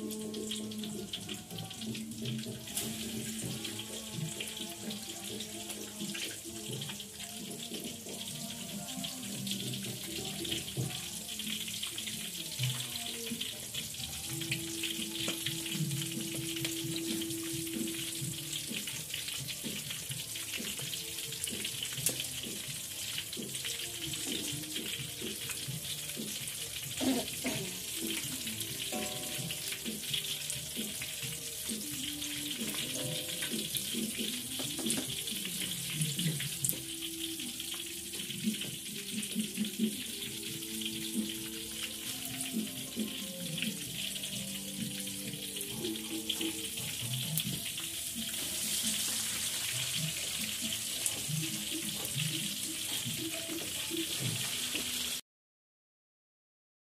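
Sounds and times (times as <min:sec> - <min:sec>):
deep-frying sizzle in oil: 0:00.0 - 0:55.2.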